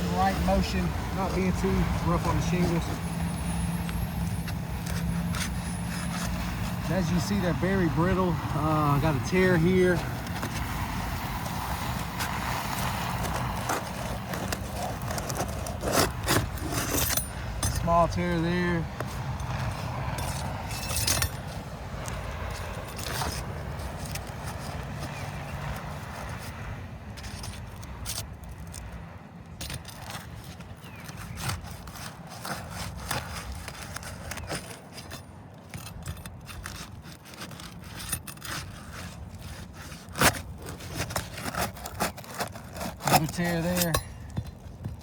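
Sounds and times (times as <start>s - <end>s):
shingles scraping: 0.0s - 45.0s
shingles cracking: 7.9s - 45.0s.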